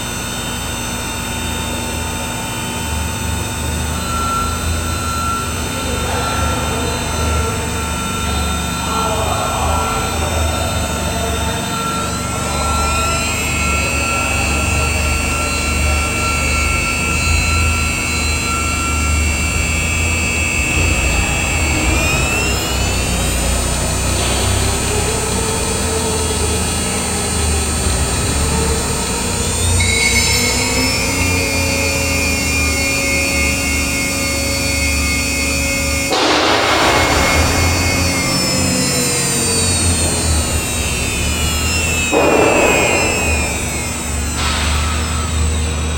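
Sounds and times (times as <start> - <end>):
low machine hum: 0.0 - 45.9
router machine whine: 0.0 - 45.9.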